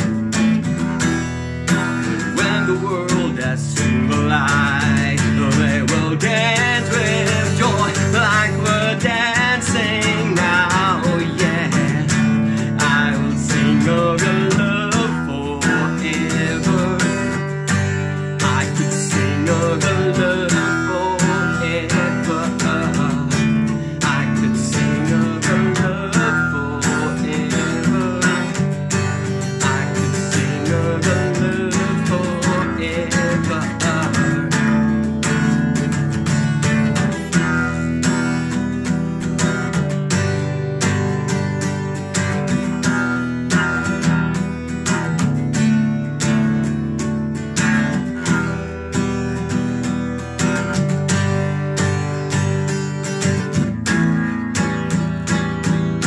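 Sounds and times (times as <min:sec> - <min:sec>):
acoustic guitar strumming: 0:00.0 - 0:56.0
man singing: 0:01.7 - 0:56.0.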